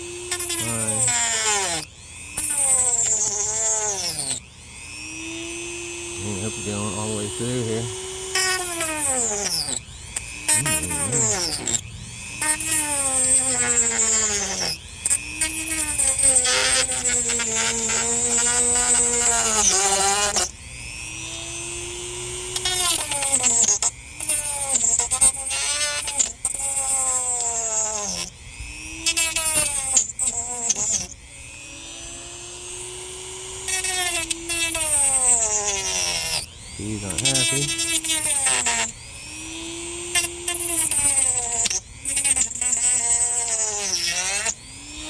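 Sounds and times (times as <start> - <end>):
rotary tool cutting gourd shell: 0.2 - 4.4, 5.0 - 45.0.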